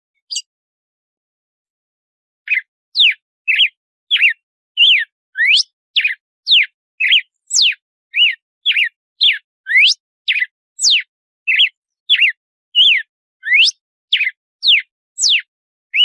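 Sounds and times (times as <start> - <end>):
bird singing whistled notes: 0.2 - 0.5, 2.5 - 16.0.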